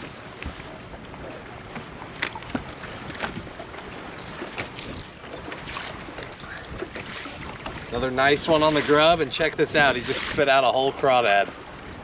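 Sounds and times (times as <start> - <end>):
water lapping against boat hull: 0.0 - 12.0
wind on microphone: 0.0 - 12.0.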